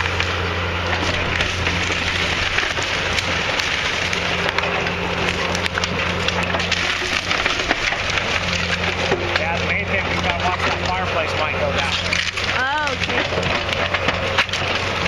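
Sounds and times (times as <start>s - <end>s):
debris crashing: 0.0s - 15.0s
heavy machine engine drone: 0.0s - 15.0s
wood cracking and splintering: 0.0s - 15.0s.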